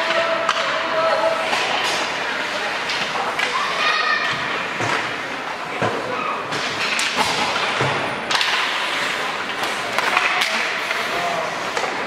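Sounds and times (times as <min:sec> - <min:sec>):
hockey sticks knocking puck: 0:00.0 - 0:12.0.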